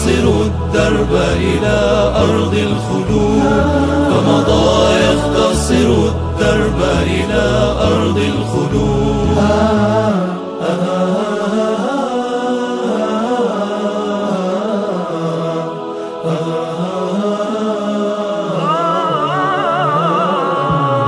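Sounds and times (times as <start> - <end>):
higher voice singing with vibrato: 0.0 - 21.0
layered voices singing wordlessly: 0.0 - 21.0.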